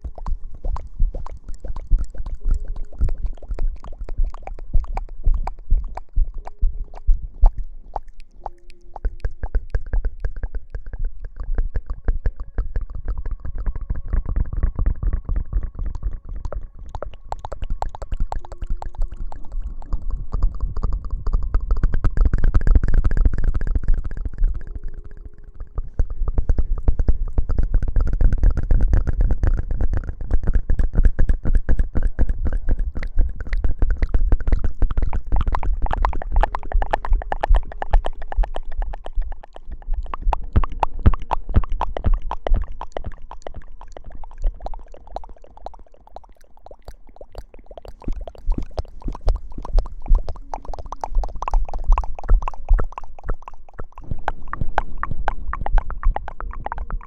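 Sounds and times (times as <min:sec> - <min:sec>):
low thumps and rumble: 0:00.0 - 0:08.0, 0:09.0 - 0:43.8, 0:48.1 - 0:57.0.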